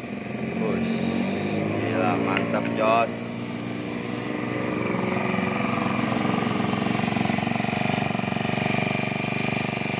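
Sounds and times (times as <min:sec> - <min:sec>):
brush cutter engine running: 0:00.0 - 0:09.9.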